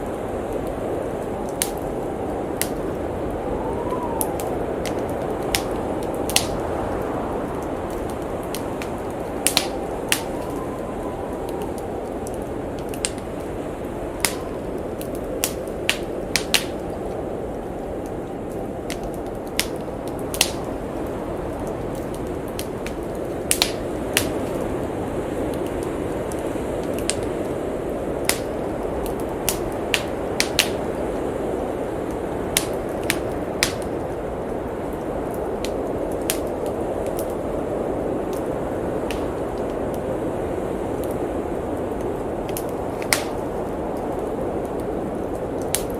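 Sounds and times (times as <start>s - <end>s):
blizzard wind rushing: 0.0s - 45.9s
wood fire crackling and popping: 0.0s - 45.9s.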